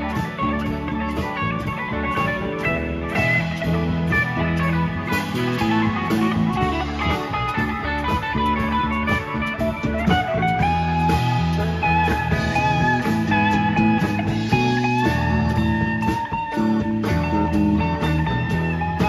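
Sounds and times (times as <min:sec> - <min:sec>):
bending electric guitar lead notes: 0:00.0 - 0:19.0
rock band playing live: 0:00.0 - 0:19.0.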